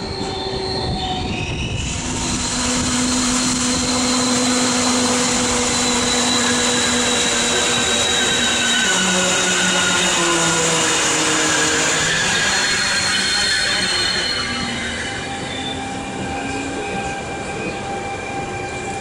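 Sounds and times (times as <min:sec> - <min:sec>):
train rolling noise: 0:00.0 - 0:19.0
train whining tones: 0:00.0 - 0:19.0.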